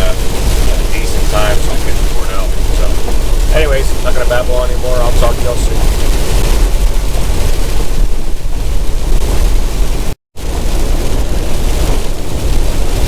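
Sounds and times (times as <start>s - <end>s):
engine and road rumble: 0.0s - 13.0s
rain and wind hiss: 0.0s - 13.0s.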